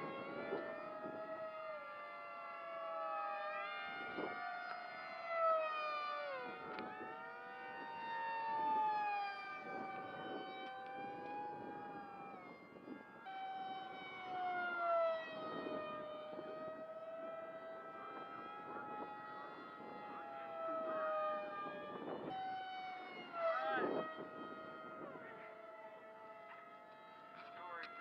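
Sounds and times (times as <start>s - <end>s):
drone motors and propellers whining: 0.0s - 28.0s.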